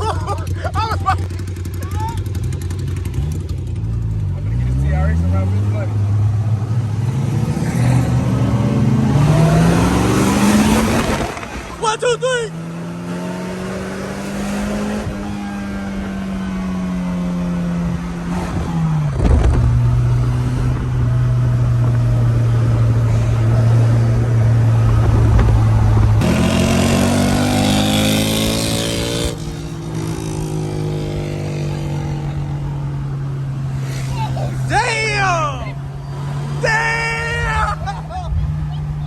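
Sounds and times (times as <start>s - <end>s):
car engine at high revs: 0.0s - 39.0s.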